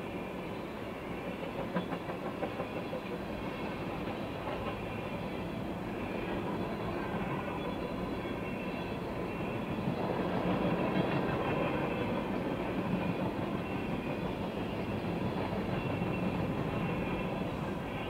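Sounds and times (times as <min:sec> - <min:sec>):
steel wheels running on rails: 0:00.0 - 0:18.0.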